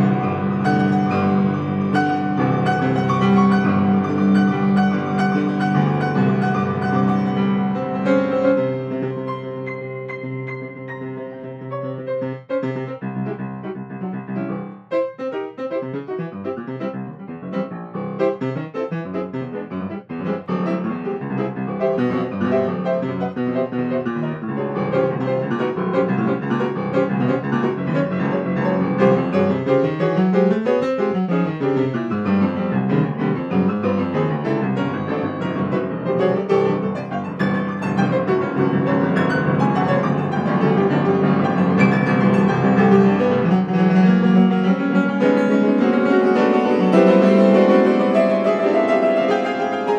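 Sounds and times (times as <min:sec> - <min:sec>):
solo piano improvisation: 0:00.0 - 0:49.9.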